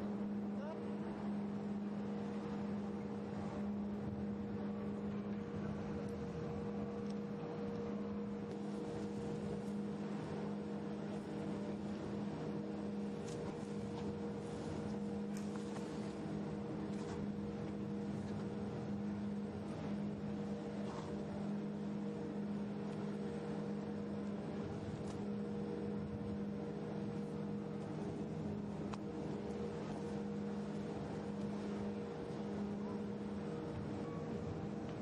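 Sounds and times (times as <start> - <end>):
ship engines droning: 0.0 - 35.0.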